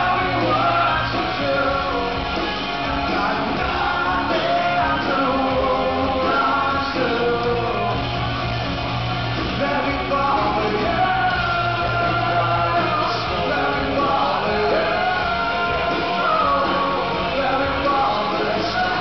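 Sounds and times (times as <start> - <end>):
man singing: 0.0 - 8.3, 9.4 - 19.0
live rock band playing: 0.0 - 19.0.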